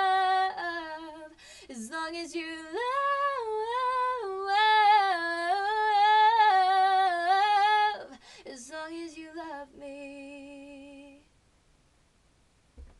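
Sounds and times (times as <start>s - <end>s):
woman singing unaccompanied: 0.0s - 11.3s.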